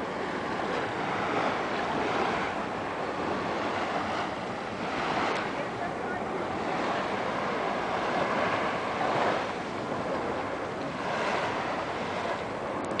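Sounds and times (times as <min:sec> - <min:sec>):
sea water lapping: 0:00.0 - 0:13.0
wind on microphone: 0:00.0 - 0:13.0.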